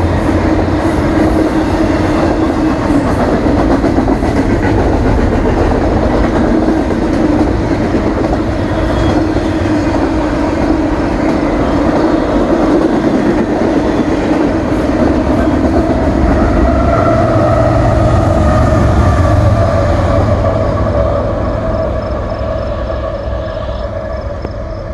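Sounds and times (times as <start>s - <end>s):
diesel locomotive engine drone: 0.0s - 24.9s
train wheels rumbling and clattering: 0.0s - 24.9s.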